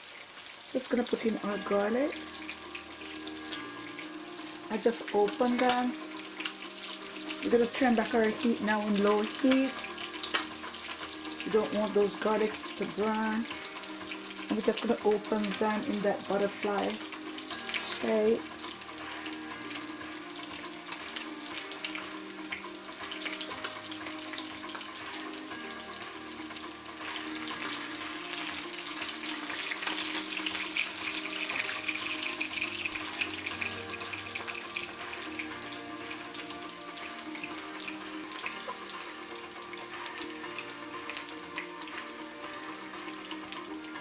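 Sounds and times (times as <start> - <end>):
fish frying in oil: 0.0 - 44.0
background music with held notes: 0.7 - 44.0.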